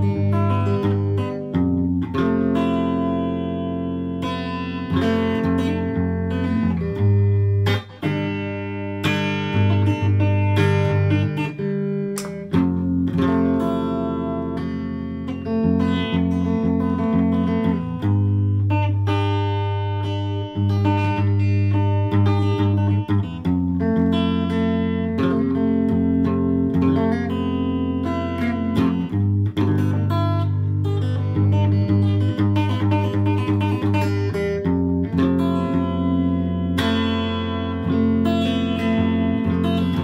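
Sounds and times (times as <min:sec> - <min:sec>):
electric guitar chords and notes: 0:00.0 - 0:40.0.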